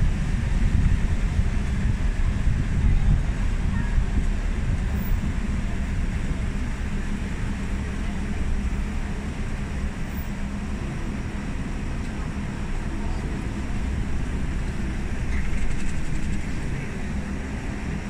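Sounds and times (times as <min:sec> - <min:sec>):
tram rumbling on track: 0:00.0 - 0:18.0.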